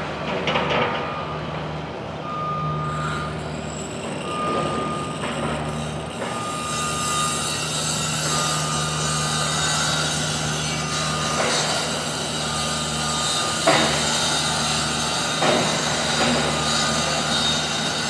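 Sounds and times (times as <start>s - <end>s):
reversing alarm beeping: 0.8s - 18.0s.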